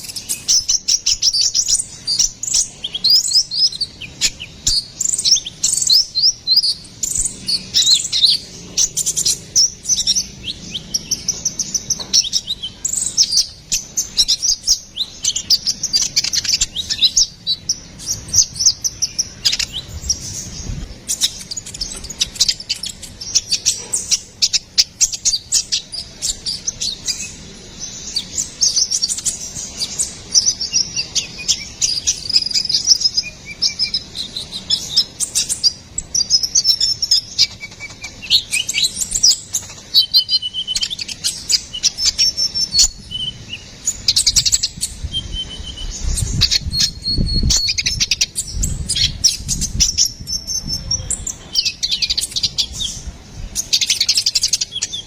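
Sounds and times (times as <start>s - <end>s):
bird singing fast chirps and trills: 0.0s - 55.0s.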